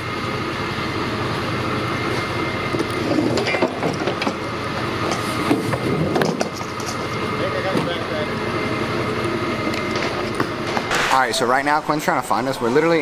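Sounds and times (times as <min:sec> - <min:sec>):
vehicle engine noise: 0:00.0 - 0:13.0.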